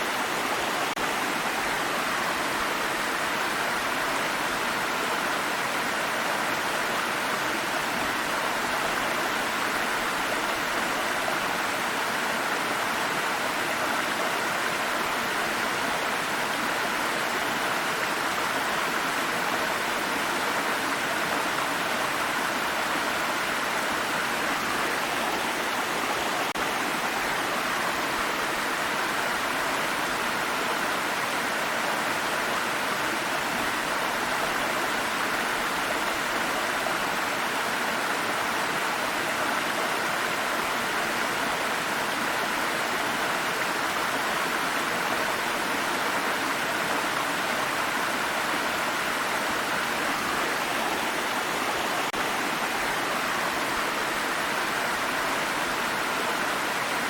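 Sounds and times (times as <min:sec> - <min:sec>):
water stream over rocks: 0:00.0 - 0:57.0.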